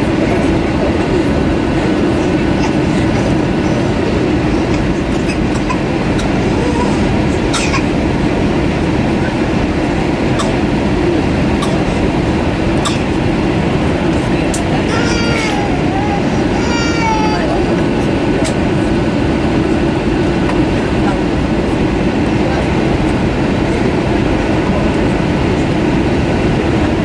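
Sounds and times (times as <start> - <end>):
airliner cabin engine rush: 0.0 - 27.0.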